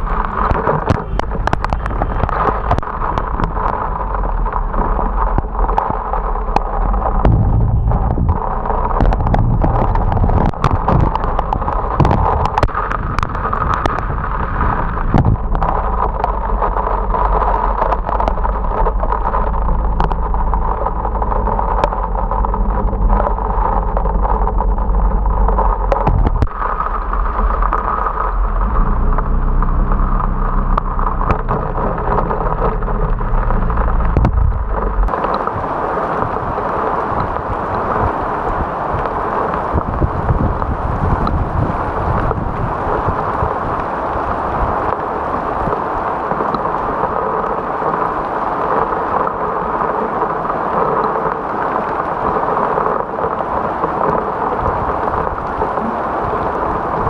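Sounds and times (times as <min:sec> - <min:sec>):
heavy rain: 0:00.0 - 0:57.0
motorcycle engine hum: 0:00.0 - 0:57.0
wind noise on microphone: 0:00.0 - 0:57.0.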